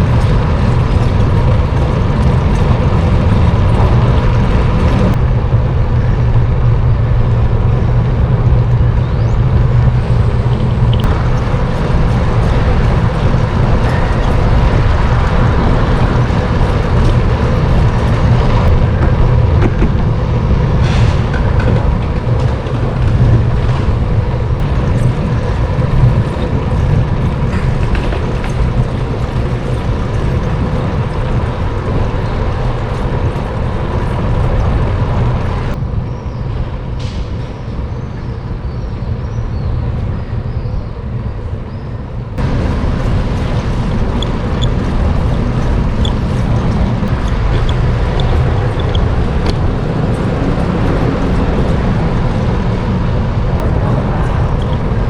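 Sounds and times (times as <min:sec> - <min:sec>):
city traffic road noise: 0:00.0 - 0:55.0
wind rumble: 0:00.0 - 0:55.0.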